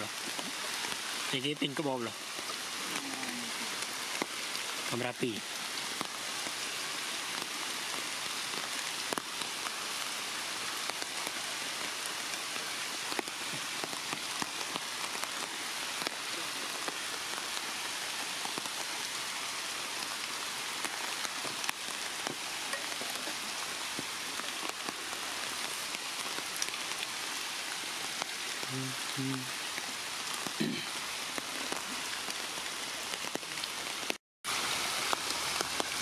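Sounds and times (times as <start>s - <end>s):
rain falling on leaves: 0.0s - 36.0s.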